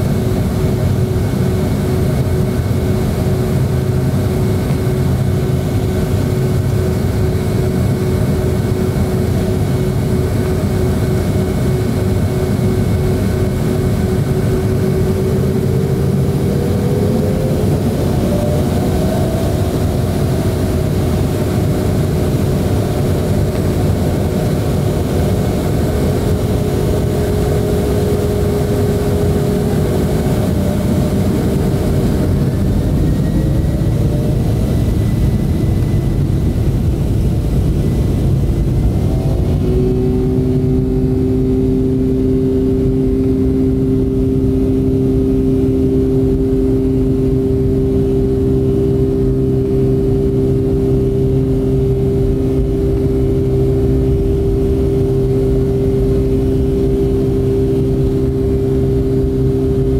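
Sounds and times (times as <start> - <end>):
jet engine whine: 0.0 - 59.9
jet engines deep rumble: 0.0 - 59.9.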